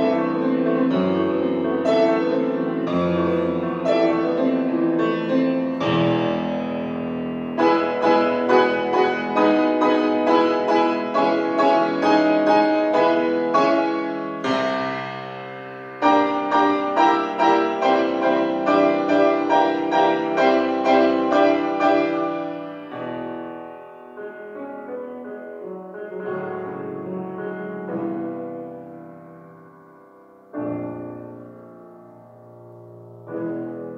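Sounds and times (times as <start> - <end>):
grand piano chords: 0.0 - 33.9.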